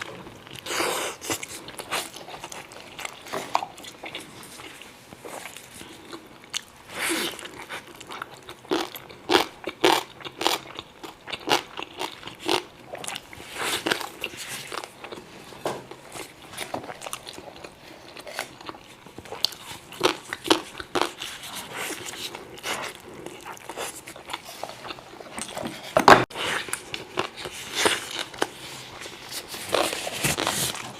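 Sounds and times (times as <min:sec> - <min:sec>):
person chewing crunchy food: 0:00.0 - 0:30.9.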